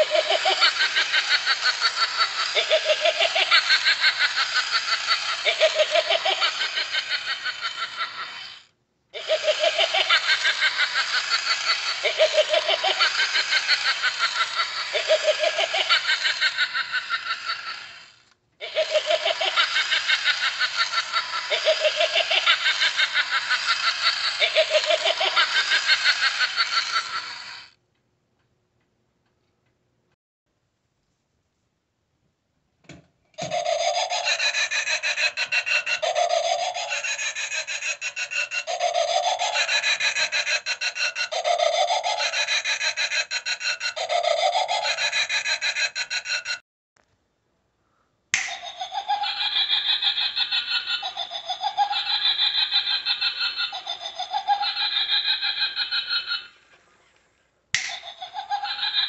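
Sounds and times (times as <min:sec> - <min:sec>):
recorded witch cackling laugh: 0:00.0 - 0:27.7, 0:33.4 - 0:46.6, 0:48.4 - 0:56.8, 0:57.8 - 0:59.0.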